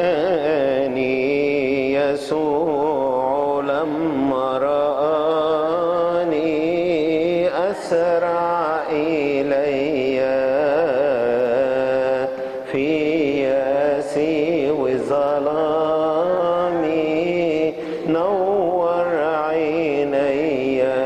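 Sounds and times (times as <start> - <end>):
man singing a slow hymn: 0.0 - 21.0.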